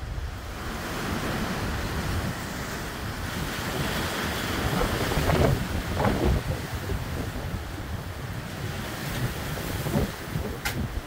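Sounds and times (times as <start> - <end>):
storm wind gusting through trees: 0.0 - 11.0
wind buffeting microphone: 0.0 - 11.0.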